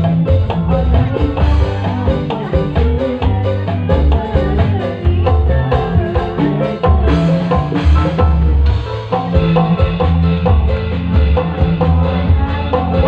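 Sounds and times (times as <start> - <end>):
drums: 0.0 - 13.0
loud music with heavy bass: 0.0 - 13.0.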